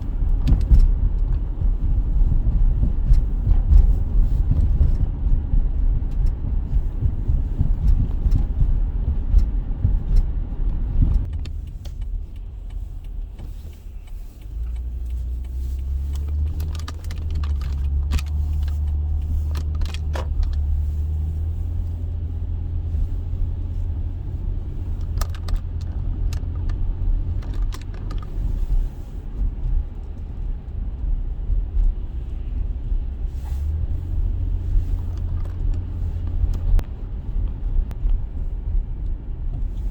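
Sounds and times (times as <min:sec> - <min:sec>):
light clicks and rattles: 0:00.0 - 0:39.9
low rumble: 0:00.0 - 0:39.9.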